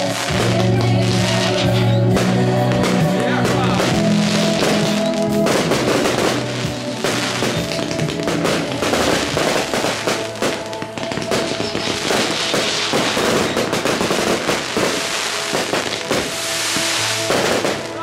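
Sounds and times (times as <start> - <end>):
fireworks bursting and crackling: 0.0 - 18.0
music with held tones: 0.0 - 18.0.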